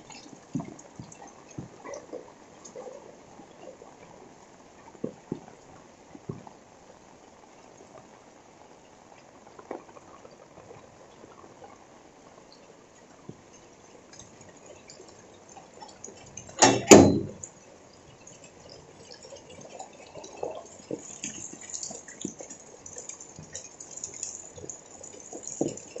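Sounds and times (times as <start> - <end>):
rainwater dripping on wet ground: 0.0 - 26.0.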